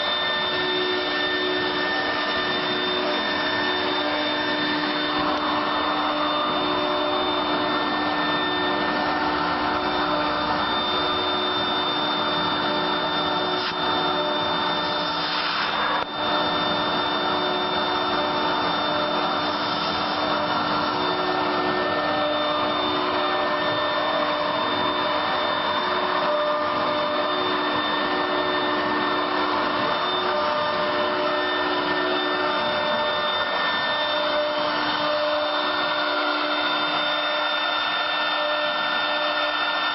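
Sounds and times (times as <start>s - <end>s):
cnc router machining wood: 0.0s - 39.9s.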